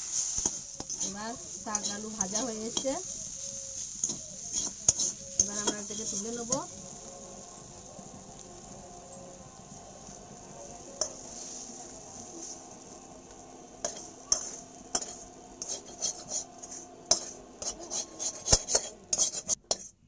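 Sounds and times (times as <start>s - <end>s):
metal spatula scraping a pan: 0.0s - 8.4s, 10.0s - 13.0s, 13.8s - 20.0s
steady high hiss: 0.0s - 20.0s.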